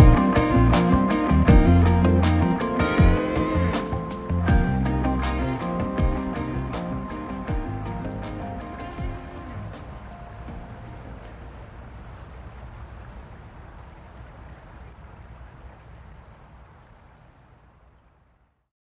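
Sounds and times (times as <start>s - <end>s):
crickets chirping: 0.0s - 18.7s.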